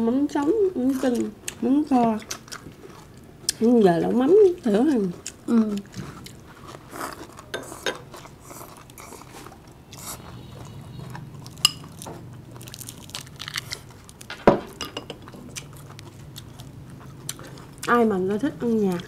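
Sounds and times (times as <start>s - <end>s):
chewing and crunching food: 0.3s - 14.3s, 15.1s - 19.0s.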